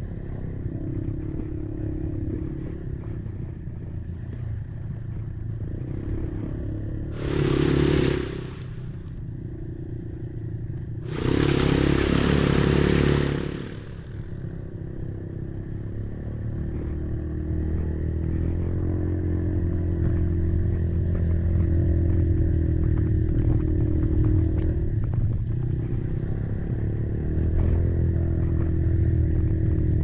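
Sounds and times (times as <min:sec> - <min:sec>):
quad engine running: 0:00.0 - 0:30.0.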